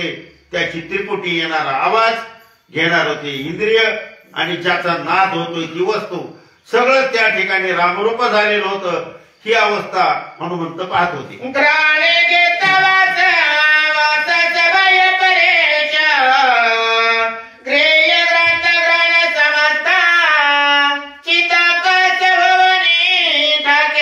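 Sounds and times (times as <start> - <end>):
man singing unaccompanied: 0.0 - 24.0.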